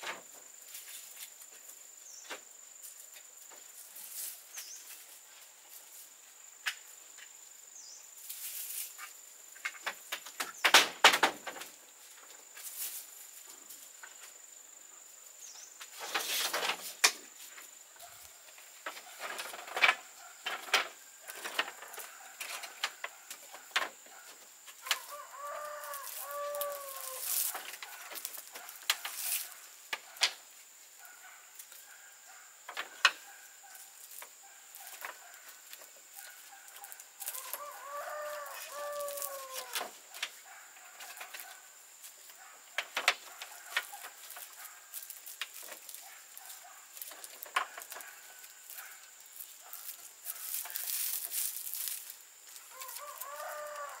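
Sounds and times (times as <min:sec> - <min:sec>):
rustling: 0:00.0 - 0:06.2, 0:08.2 - 0:14.4, 0:15.7 - 0:30.6, 0:32.7 - 0:54.0.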